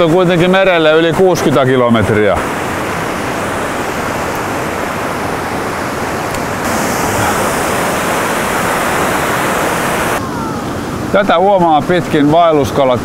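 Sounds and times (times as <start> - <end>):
river rapid rushing: 0.0 - 11.4.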